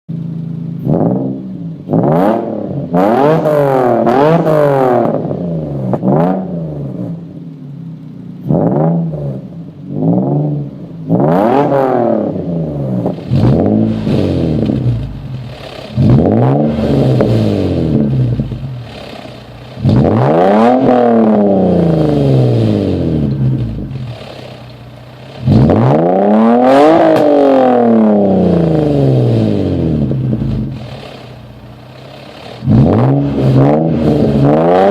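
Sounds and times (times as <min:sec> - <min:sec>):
car engine revving: 0:00.3 - 0:34.9.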